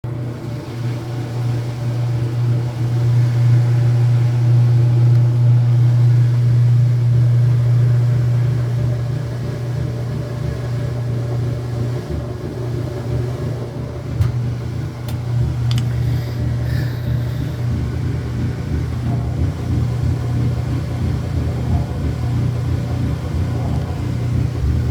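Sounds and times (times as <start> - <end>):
washing machine spinning: 0.0 - 24.9.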